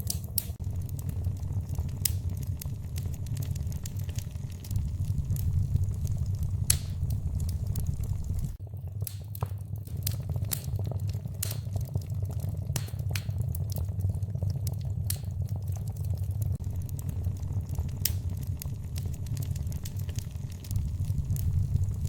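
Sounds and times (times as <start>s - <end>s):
low rumble: 0.0s - 22.0s
wood fire crackling: 0.0s - 22.0s.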